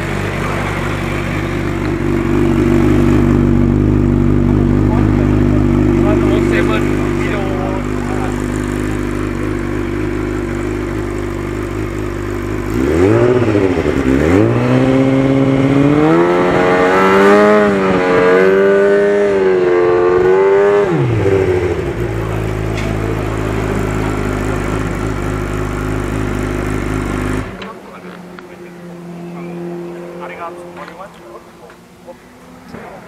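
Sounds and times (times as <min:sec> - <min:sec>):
motorcycle engine revving: 0:00.0 - 0:31.5.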